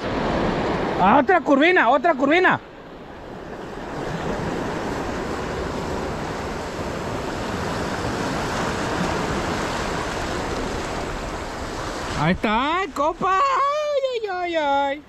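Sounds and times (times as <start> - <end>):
surf breaking over rocks: 0.0 - 15.0.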